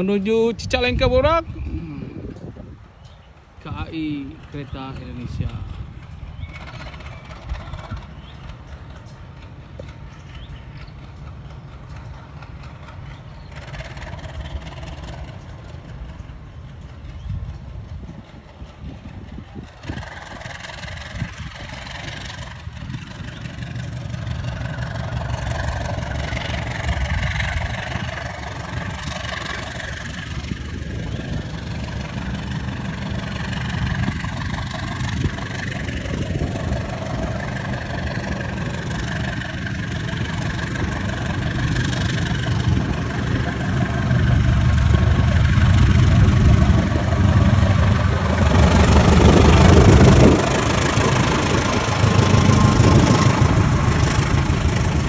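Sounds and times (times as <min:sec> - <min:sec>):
diesel train engine rumbling: 0:00.0 - 0:55.0.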